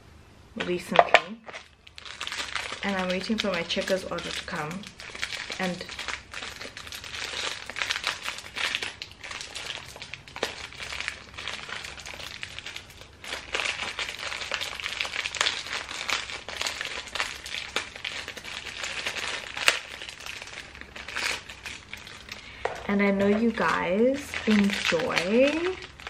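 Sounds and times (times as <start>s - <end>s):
plastic wrapper crinkling: 0.6s - 26.0s.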